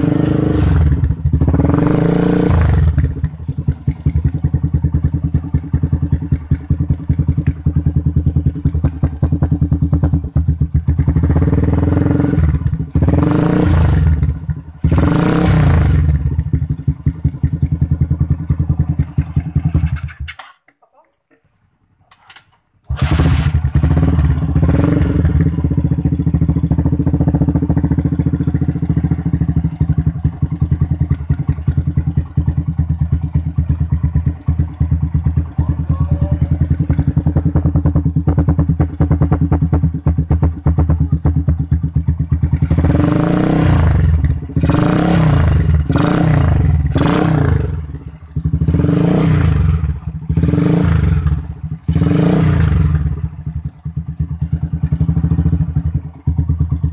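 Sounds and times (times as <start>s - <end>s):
motorcycle engine idling: 0.0s - 20.3s, 22.9s - 56.9s.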